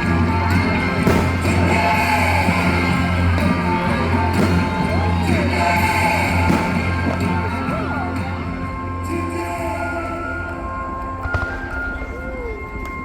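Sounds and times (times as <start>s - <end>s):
loud bass-heavy music: 0.0s - 11.6s
crowd voices: 0.0s - 13.0s.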